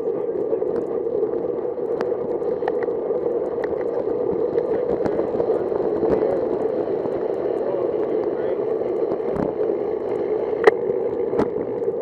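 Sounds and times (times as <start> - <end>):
wind rush over microphone: 0.6 - 12.0.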